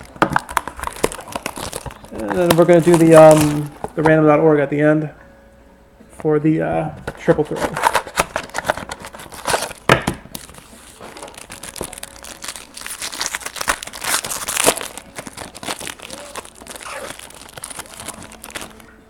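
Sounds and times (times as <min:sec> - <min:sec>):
wrapper crinkling: 0:00.0 - 0:04.1, 0:07.2 - 0:19.0
wrapper ripping: 0:00.0 - 0:04.1, 0:07.3 - 0:19.0.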